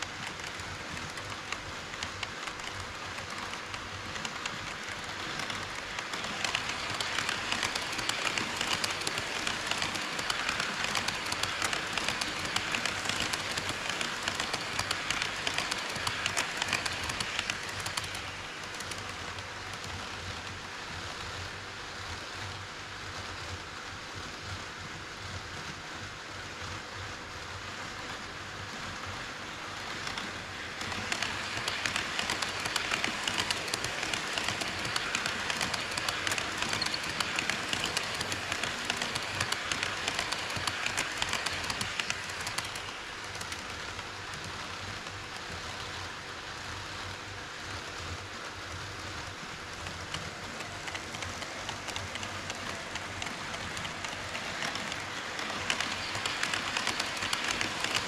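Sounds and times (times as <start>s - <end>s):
model train wheels clattering: 0.0s - 20.5s, 28.9s - 46.2s, 48.7s - 58.0s.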